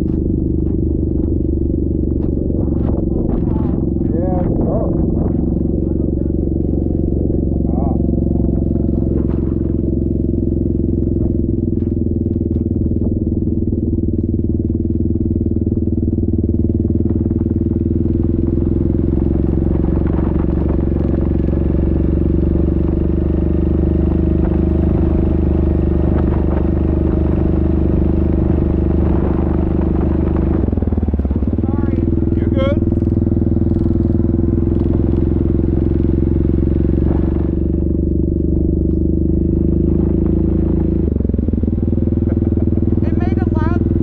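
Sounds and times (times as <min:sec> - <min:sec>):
atv engine running steadily: 0:00.0 - 0:44.0.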